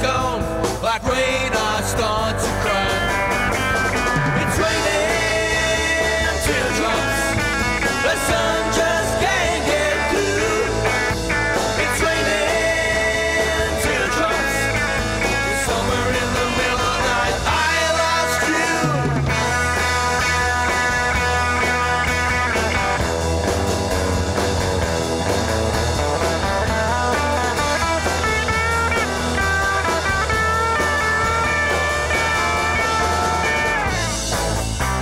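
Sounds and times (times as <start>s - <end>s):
drum kit: 0.0s - 35.0s
electric guitar: 0.0s - 35.0s.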